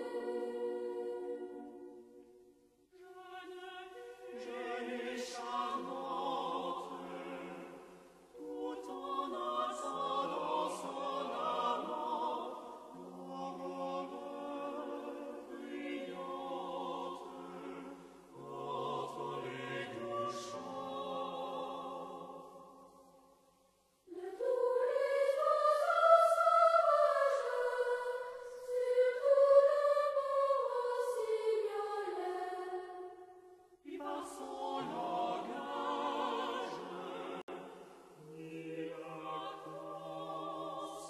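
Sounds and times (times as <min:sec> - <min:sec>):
choir singing folk song: 0:00.0 - 0:23.4, 0:24.0 - 0:41.0.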